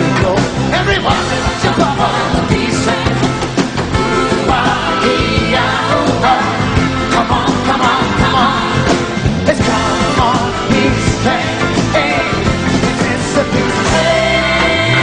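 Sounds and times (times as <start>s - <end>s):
pop-rock song with singer: 0.0s - 15.0s.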